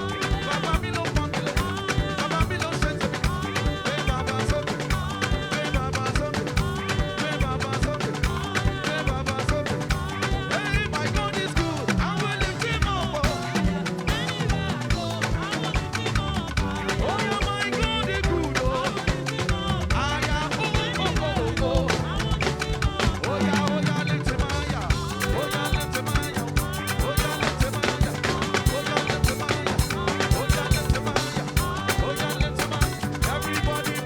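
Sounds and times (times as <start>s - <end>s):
bending guitar melody: 0.0s - 34.0s
dense drumming: 0.0s - 34.0s
live band playing dance music: 0.0s - 34.0s.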